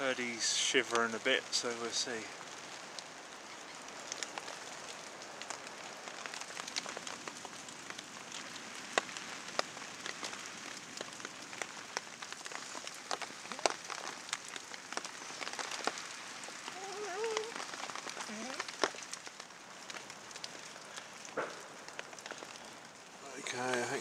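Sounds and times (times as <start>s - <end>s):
raindrops ticking: 0.0s - 24.0s
steady rain: 0.0s - 24.0s.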